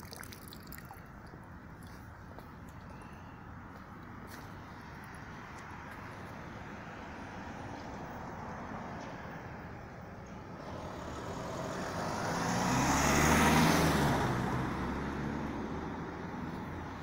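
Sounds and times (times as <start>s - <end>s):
vehicle passing by: 2.9s - 17.0s.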